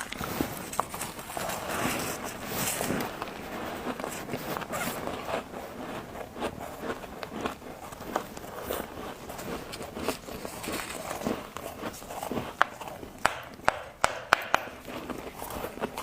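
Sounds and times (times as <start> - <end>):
person chewing crunchy frost: 0.0 - 16.0.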